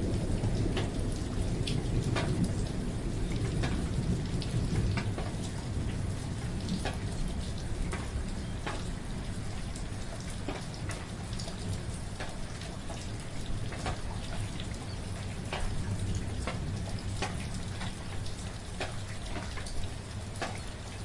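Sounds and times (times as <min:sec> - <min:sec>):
raindrops striking close by: 0:00.0 - 0:21.0
soft rain falling: 0:00.0 - 0:21.0.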